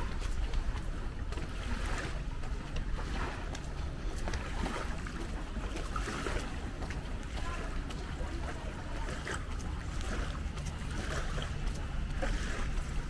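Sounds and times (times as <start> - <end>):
sea-front ambience: 0.0 - 13.0.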